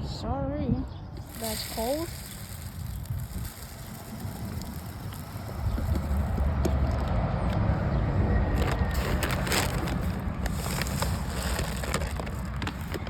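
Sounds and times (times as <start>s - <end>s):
wind buffeting microphone: 0.0s - 13.0s
handling crackles and rustles: 1.2s - 13.0s.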